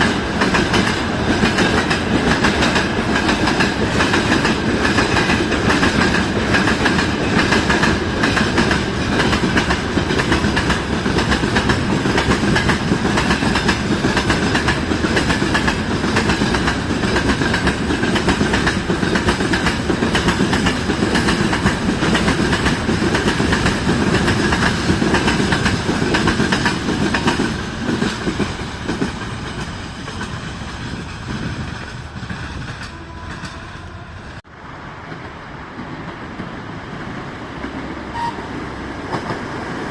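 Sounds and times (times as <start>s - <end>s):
train wheels clattering on rails: 0.0s - 34.0s, 35.0s - 39.9s.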